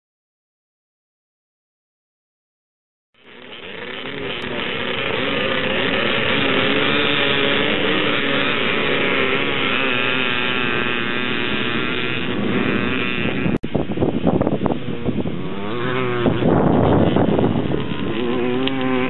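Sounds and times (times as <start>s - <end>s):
motocross bikes revving: 3.2s - 13.6s, 14.2s - 19.0s.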